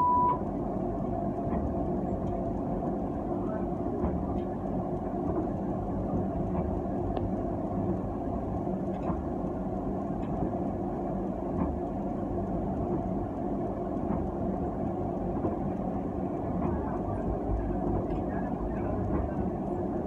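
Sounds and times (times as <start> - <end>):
tram wheels rumbling on rails: 0.4 - 20.0.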